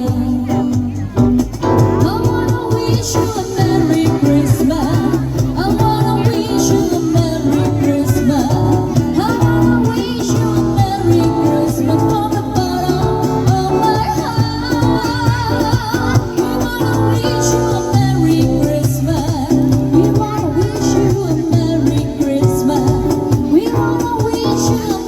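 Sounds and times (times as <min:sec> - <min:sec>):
woman singing: 0:00.0 - 0:01.2, 0:01.8 - 0:25.0
instrumental backing music: 0:00.0 - 0:25.0.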